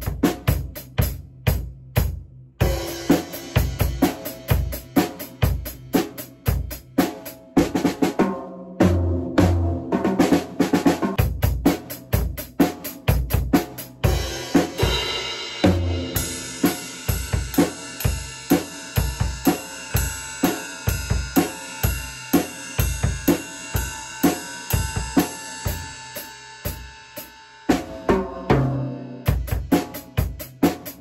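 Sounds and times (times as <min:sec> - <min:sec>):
drum kit beat: 0:00.0 - 0:31.0.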